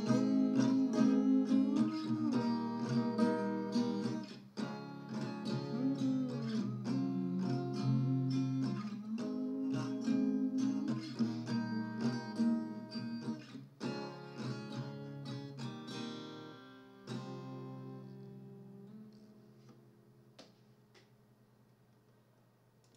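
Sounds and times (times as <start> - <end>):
small guitar strummed and picked: 0.0 - 20.1.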